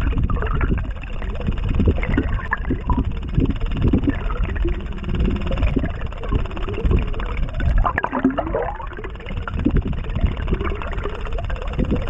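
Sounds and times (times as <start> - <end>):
low water rumble: 0.0 - 12.0.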